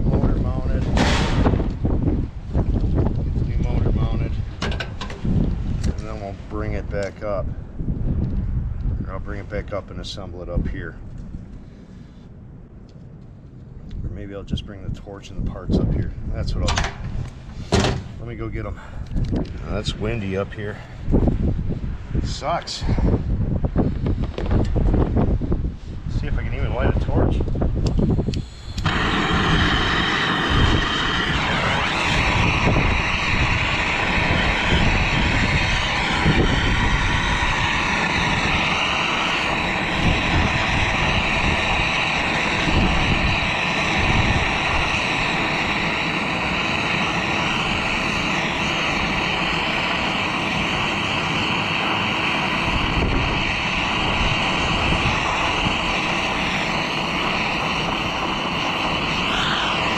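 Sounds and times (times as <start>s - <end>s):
gas torch roaring hiss: 0.0s - 9.6s, 15.7s - 59.9s
wind buffeting microphone: 0.0s - 11.6s, 12.3s - 59.9s.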